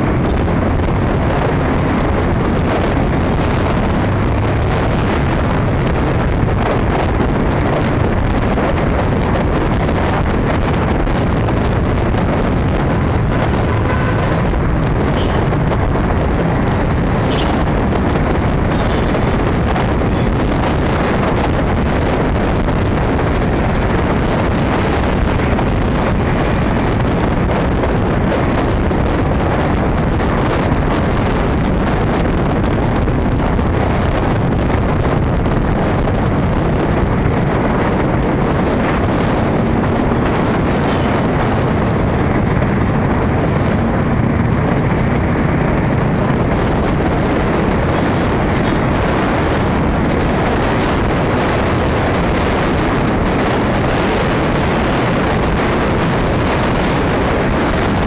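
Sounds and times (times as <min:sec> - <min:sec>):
engines and traffic rumble: 0:00.0 - 0:58.0
wind buffeting microphone: 0:00.0 - 0:58.0.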